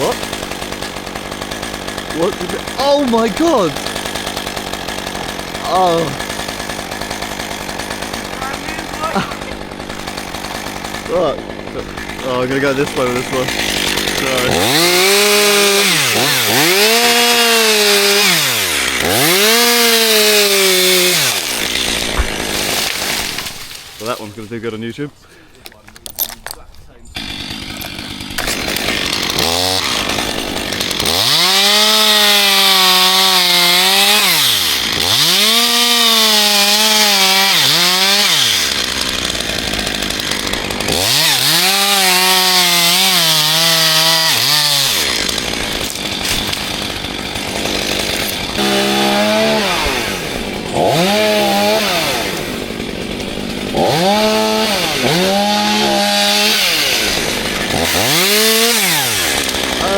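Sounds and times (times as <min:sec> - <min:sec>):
chainsaw revving: 0:00.0 - 0:25.0, 0:26.2 - 0:59.9.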